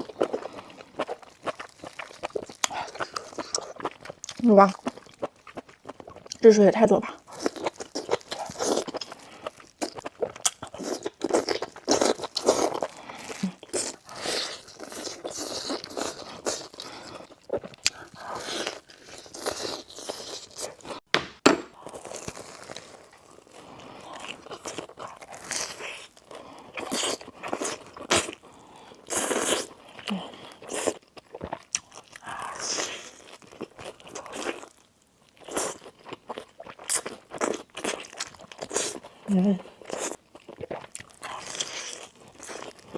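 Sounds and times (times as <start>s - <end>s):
crunching bites and chewing: 0.0s - 6.4s, 7.2s - 21.0s, 21.7s - 42.9s.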